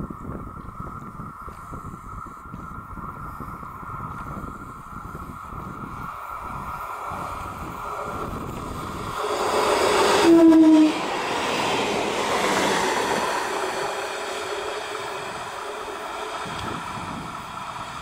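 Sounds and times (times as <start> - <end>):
train rushing on track: 0.0 - 18.0.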